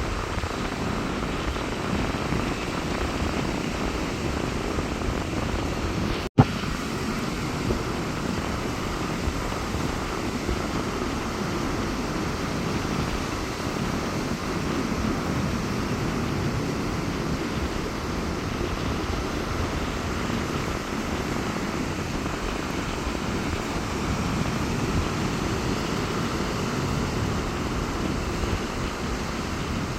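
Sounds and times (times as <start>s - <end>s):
sea surf washing onto beach: 0.0s - 29.9s
wind rumble on microphone: 0.0s - 29.9s.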